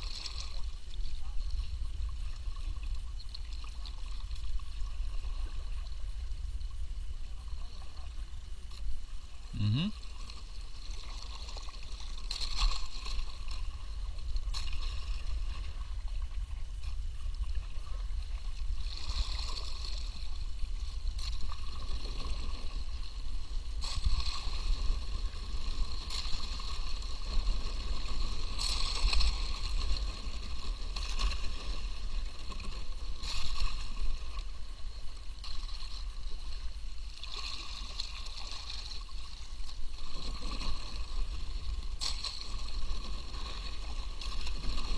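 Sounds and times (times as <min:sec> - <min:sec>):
paddle splashing water: 0:00.0 - 0:44.9.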